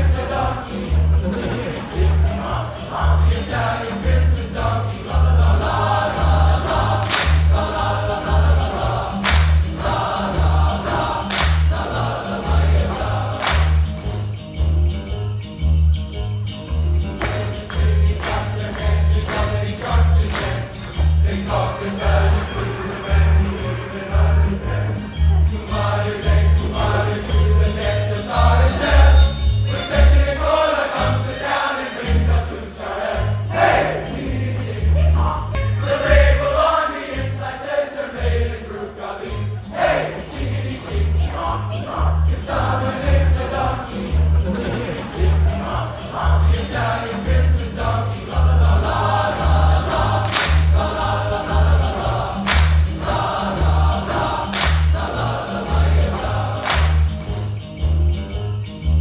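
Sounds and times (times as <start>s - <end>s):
voices singing: 0.0s - 14.8s, 16.7s - 58.7s
tinkling sleigh chimes shaking: 0.0s - 36.4s, 39.2s - 59.0s
upbeat christmas music: 0.0s - 59.0s.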